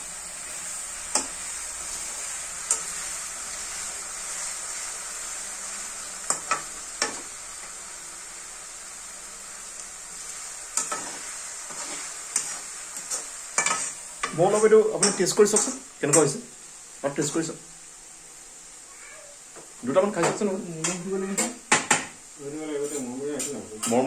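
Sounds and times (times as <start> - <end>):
potato deep-frying in oil: 0.0 - 24.0.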